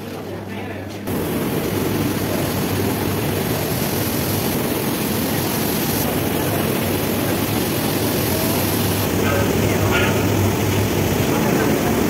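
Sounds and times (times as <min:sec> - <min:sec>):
factory machinery roaring: 0:00.2 - 0:12.0.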